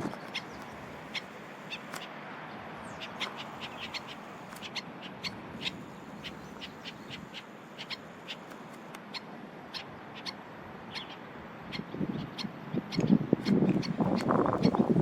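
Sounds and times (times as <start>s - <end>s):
birds chirping: 0.0s - 15.0s
steady outdoor hiss: 0.0s - 15.0s.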